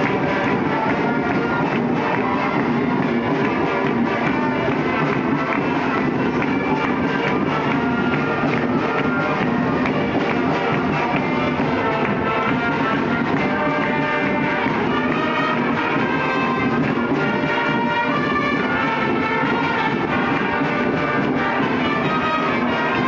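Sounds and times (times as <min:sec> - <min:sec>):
marching band brass and drums: 0:00.0 - 0:23.0.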